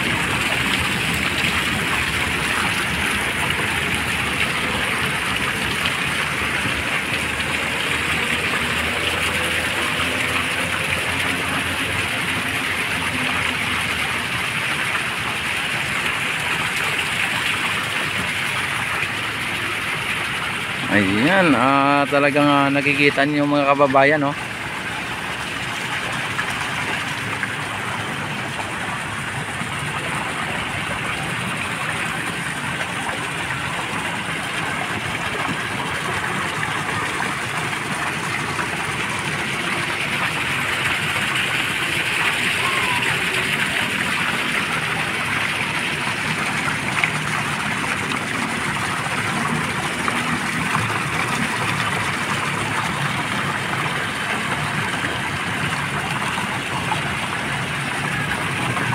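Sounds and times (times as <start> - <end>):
fountain water splashing: 0.0 - 58.9.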